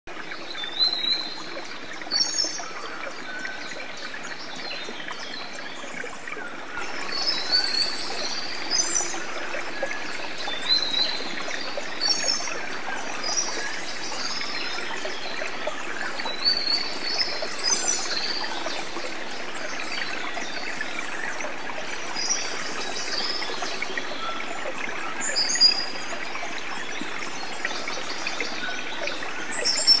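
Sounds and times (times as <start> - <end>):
running water: 0.1 - 30.0.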